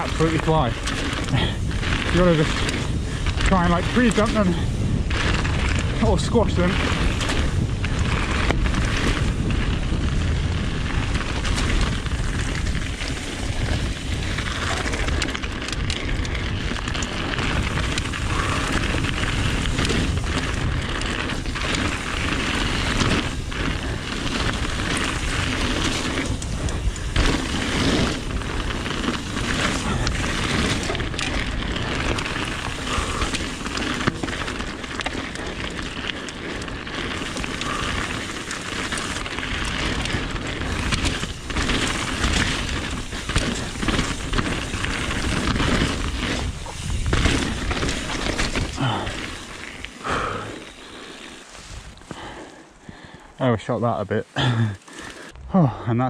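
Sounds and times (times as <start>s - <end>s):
wind rumble on microphone: 0.0s - 50.6s
bike knocking and rattling: 0.0s - 53.3s
tyres crunching on gravel: 0.0s - 56.0s.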